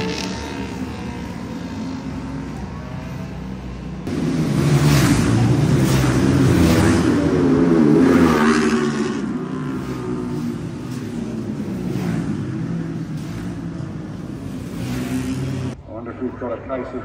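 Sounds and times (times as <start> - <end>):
racing motorcycles revving: 0.0 - 15.8.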